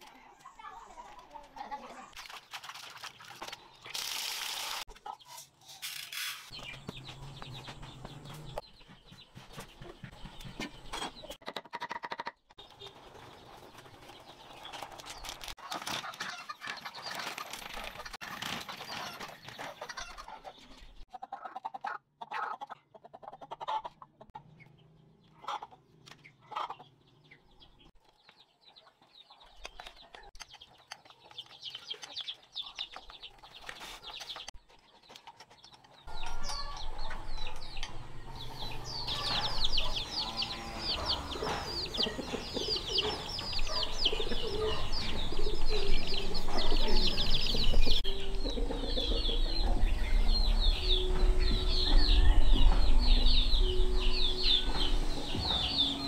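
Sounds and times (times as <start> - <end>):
chickens clucking: 6.5 - 27.8, 28.5 - 56.0.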